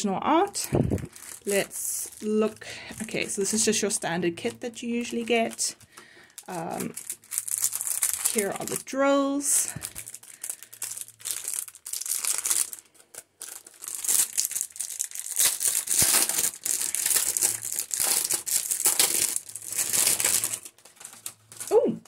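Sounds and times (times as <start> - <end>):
plastic packaging crinkling: 0.4 - 21.9.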